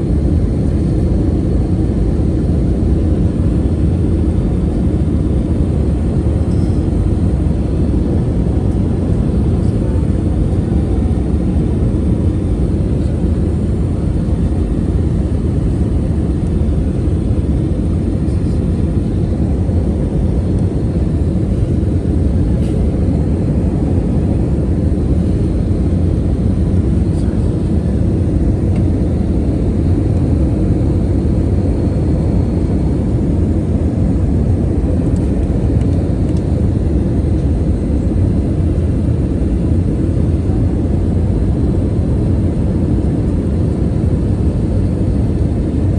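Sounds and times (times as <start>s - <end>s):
jet engine cabin rumble: 0.0s - 45.9s.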